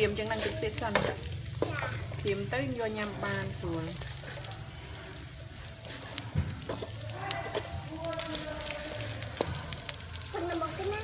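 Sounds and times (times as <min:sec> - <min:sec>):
metal spatula scraping wok: 0:00.0 - 0:04.5, 0:06.6 - 0:11.0
soft sizzle: 0:00.0 - 0:11.0.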